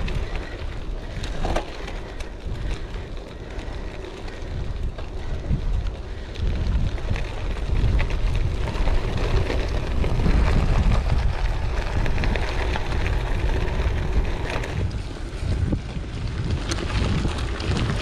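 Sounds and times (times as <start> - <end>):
bike tyres rumbling on gravel: 0.0 - 18.0
grit and stones crackling under tyres: 0.0 - 18.0
wind buffeting microphone: 0.0 - 18.0.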